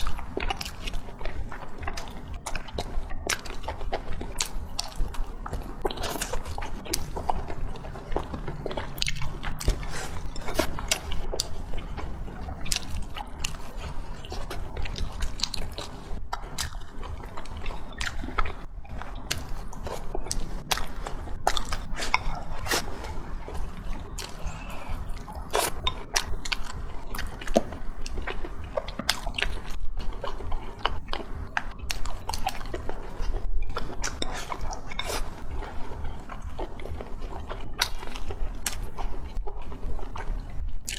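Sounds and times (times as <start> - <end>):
chewing and biting food: 0.0 - 40.9
steady low hum: 0.0 - 40.9.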